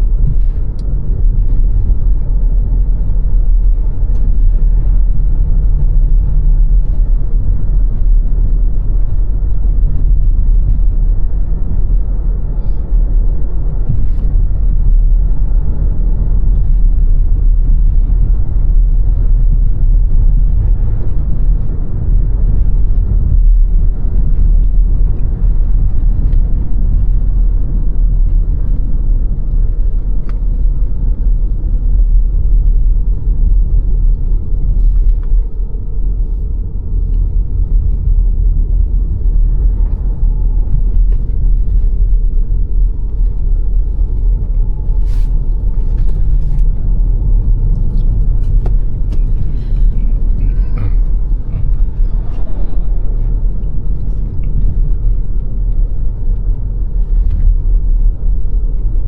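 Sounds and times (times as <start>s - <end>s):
car driving rumble: 0.0s - 59.0s.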